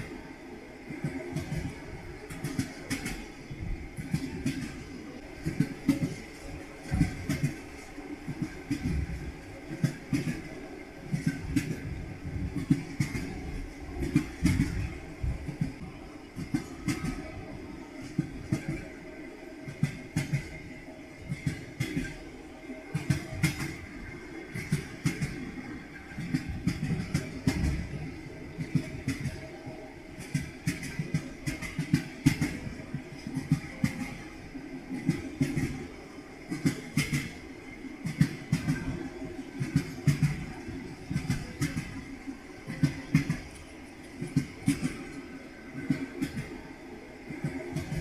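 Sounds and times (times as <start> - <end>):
low rumble of moving train: 0.0 - 48.0
train wheels clacking over rail joints: 1.0 - 19.0, 19.6 - 22.2, 22.9 - 37.4, 38.0 - 46.6, 47.2 - 48.0.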